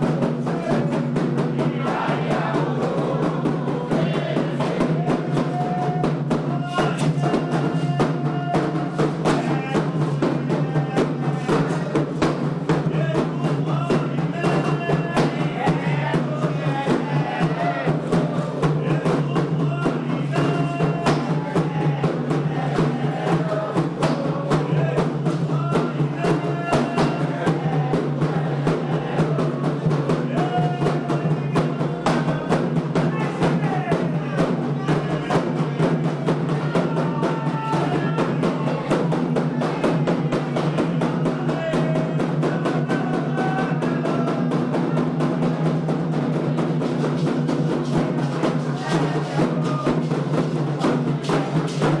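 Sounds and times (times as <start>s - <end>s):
hand drums playing fast rhythm: 0.0s - 52.0s
voices singing a chant: 0.0s - 52.0s.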